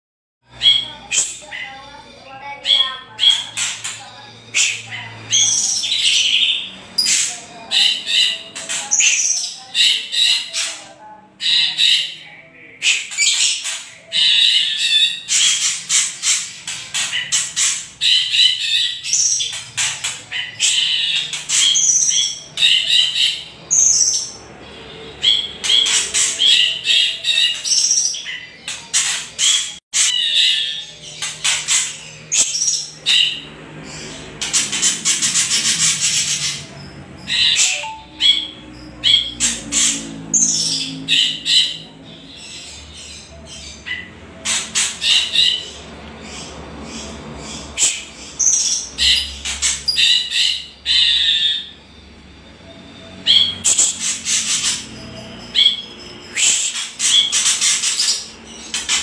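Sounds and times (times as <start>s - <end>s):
birds chattering calls: 0.4s - 59.0s.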